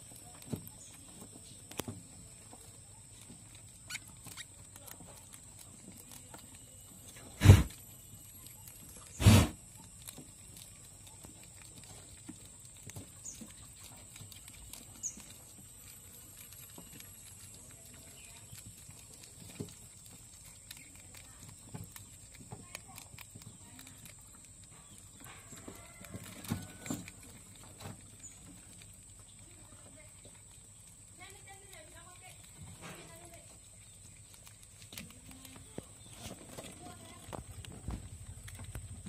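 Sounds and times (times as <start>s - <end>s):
rats scratching and tapping: 0.0s - 39.0s.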